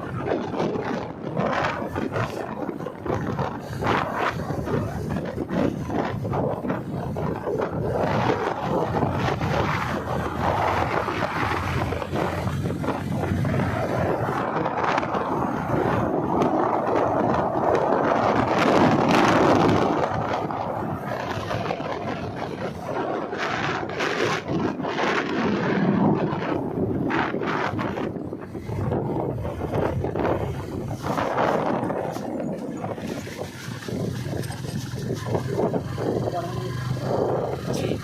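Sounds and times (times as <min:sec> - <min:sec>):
road noise: 0:00.0 - 0:38.0
wind buffeting microphone: 0:00.0 - 0:38.0.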